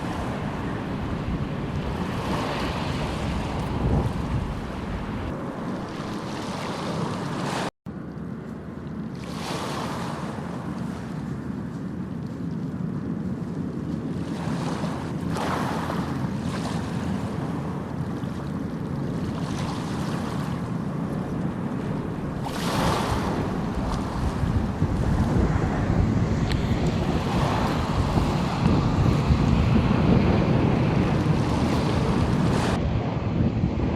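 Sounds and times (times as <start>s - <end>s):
wind on microphone: 0.0s - 7.7s, 9.1s - 33.9s
sea waves washing ashore: 0.0s - 33.9s.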